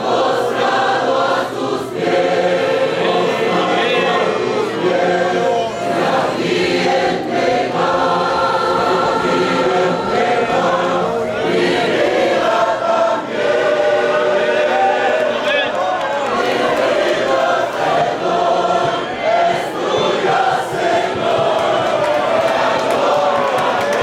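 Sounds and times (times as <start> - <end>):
church choir singing a hymn: 0.0 - 24.0.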